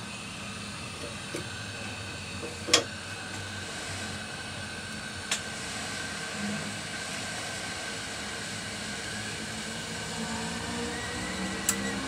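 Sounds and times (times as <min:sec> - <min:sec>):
fan blowing with faint whine: 0:00.0 - 0:12.0.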